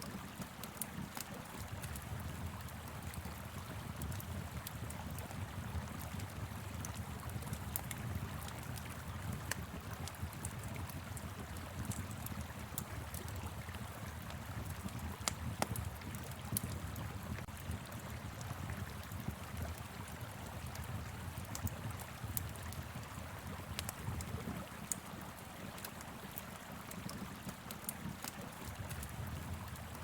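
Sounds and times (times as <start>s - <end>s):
fire pit crackling: 0.0s - 30.0s.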